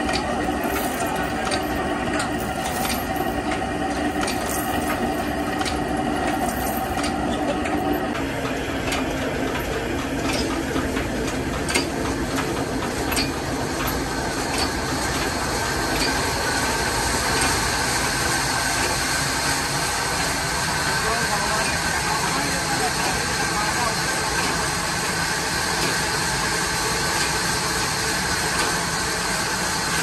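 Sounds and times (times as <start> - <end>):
band saw mill droning: 0.0 - 30.0.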